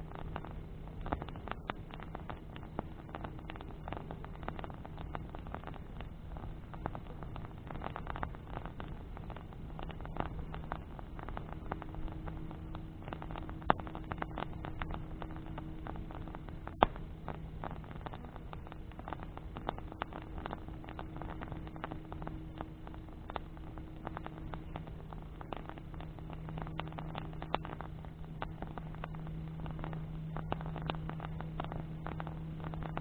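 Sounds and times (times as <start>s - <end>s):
bonfire crackling: 0.0s - 33.0s
faint low hum: 0.0s - 33.0s
fire popping: 0.0s - 33.0s.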